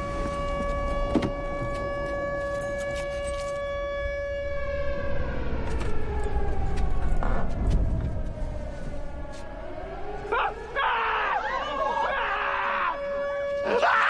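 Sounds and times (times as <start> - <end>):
civil defense siren wailing: 0.0 - 14.0.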